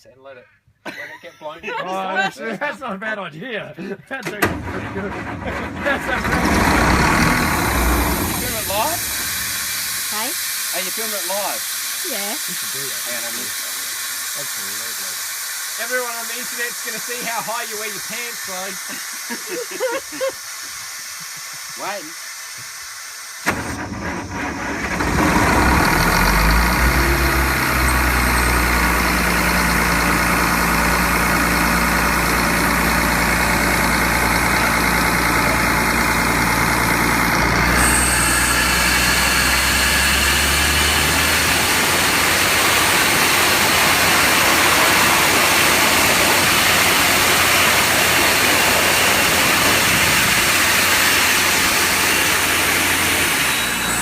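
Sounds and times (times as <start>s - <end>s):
low engine drone: 4.4s - 20.2s, 23.0s - 54.0s
air rushing from compressor: 4.4s - 54.0s.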